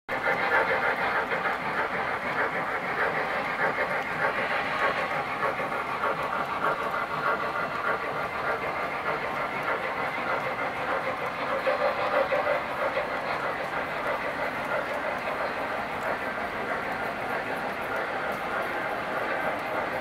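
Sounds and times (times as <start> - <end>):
model locomotive motors running: 0.1 - 20.0
model train wheels on rails: 0.1 - 20.0.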